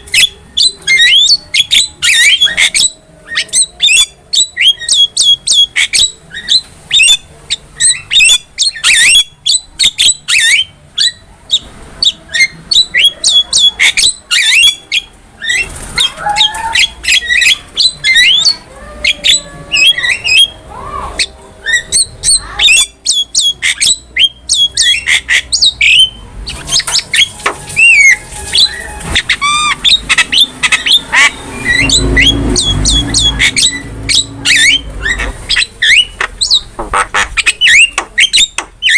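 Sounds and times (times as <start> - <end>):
myna bird calling: 0.0 - 38.9.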